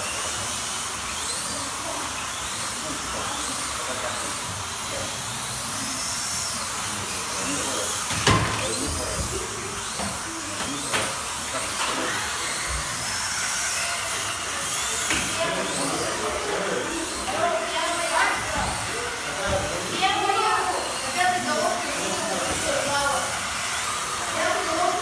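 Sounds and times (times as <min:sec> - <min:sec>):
slot car motors whining: 0:00.0 - 0:25.0
steady running noise: 0:00.0 - 0:25.0.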